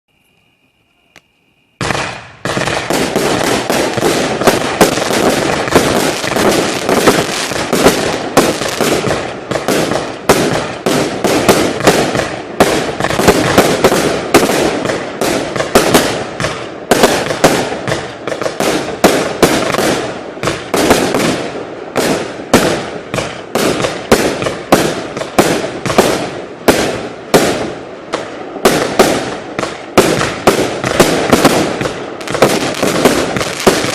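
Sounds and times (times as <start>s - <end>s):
firework shots and bursts: 1.8s - 33.9s.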